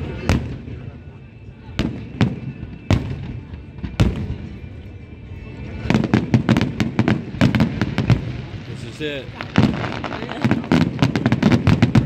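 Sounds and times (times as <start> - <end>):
fireworks bursting with bangs: 0.0 - 4.8, 5.6 - 12.0.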